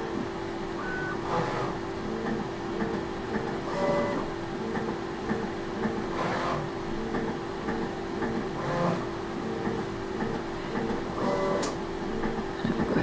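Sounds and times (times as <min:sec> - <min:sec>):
machine motor humming: 0:00.0 - 0:07.2, 0:08.2 - 0:12.4.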